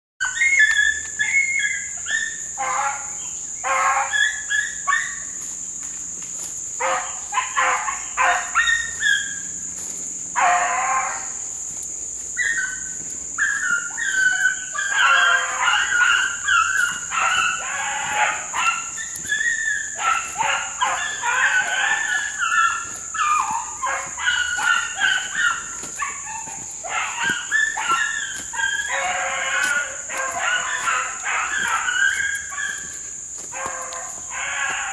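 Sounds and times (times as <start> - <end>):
hounds baying and barking: 0.2 - 34.9.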